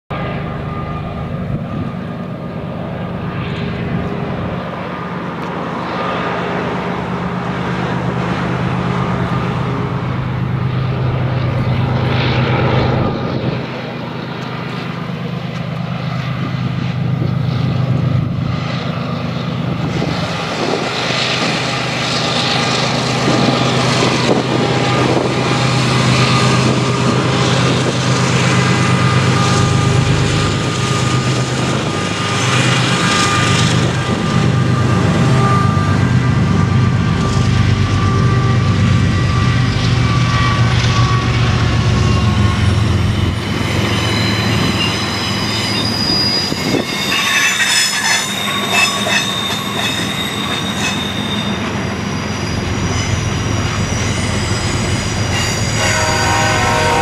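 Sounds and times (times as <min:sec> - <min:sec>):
diesel locomotive engine drone: 0:00.1 - 0:57.0.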